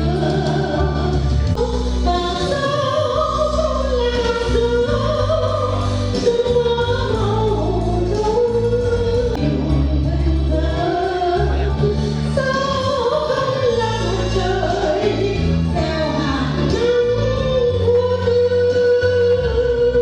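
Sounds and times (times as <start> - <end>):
singing over held bass notes: 0.0 - 20.0.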